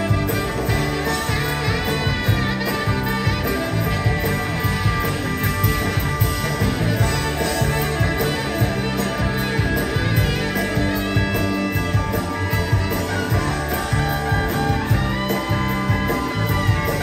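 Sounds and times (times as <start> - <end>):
drums with steady beat: 0.0 - 17.0
electric guitars: 0.0 - 17.0.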